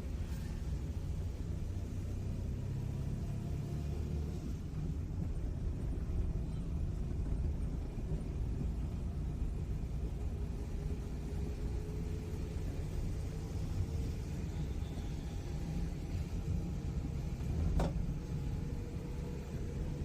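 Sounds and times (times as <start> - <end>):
road vehicle rumble: 0.0 - 20.0.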